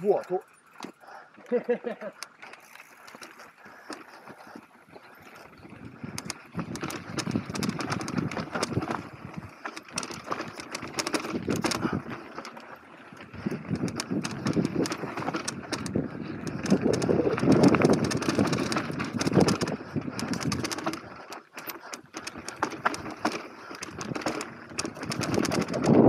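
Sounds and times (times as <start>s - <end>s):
bike frame and chain rattling: 0.0s - 26.0s
tyres crunching over dirt and stones: 0.0s - 26.0s.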